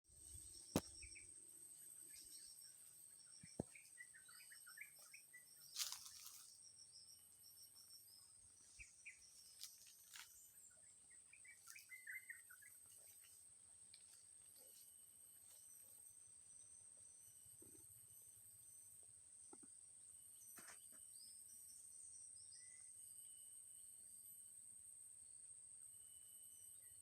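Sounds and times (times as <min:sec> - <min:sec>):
small birds chirping: 0:00.2 - 0:22.9.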